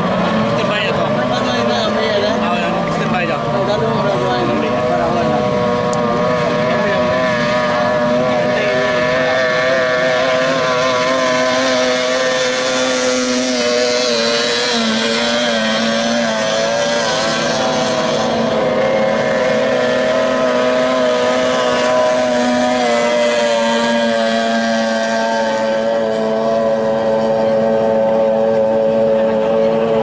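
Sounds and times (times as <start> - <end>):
racing boat engines droning: 0.0 - 30.0.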